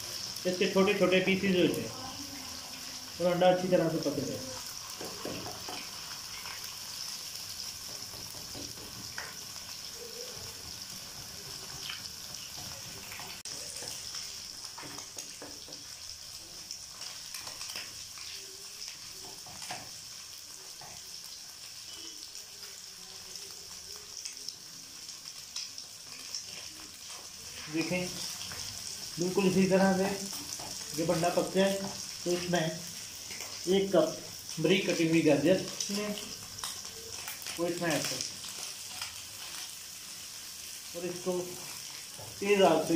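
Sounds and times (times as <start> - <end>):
eggs sizzling in oil: 0.0 - 42.9.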